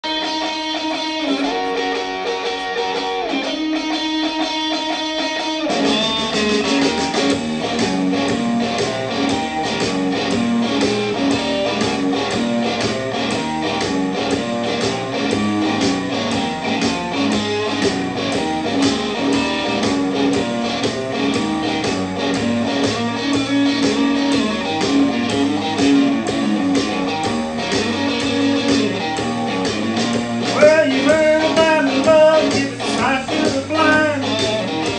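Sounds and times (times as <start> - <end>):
guitar chords and strumming: 0.0 - 34.9.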